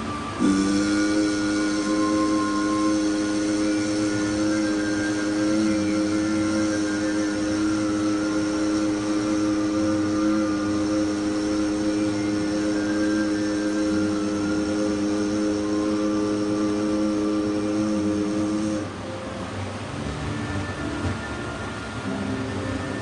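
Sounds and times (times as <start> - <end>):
drone of held tones: 0.0 - 23.0.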